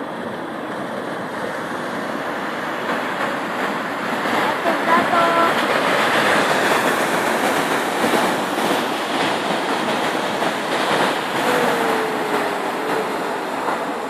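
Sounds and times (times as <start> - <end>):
tidal wave rushing water: 0.0 - 14.0.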